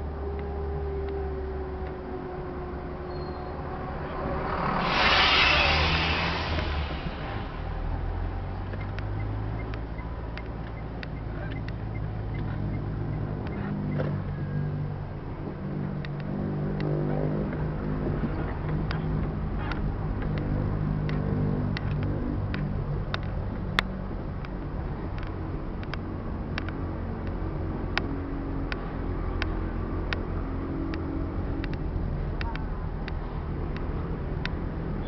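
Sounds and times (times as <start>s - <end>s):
car engine: 0.0s - 35.0s
road noise inside car: 0.0s - 35.0s.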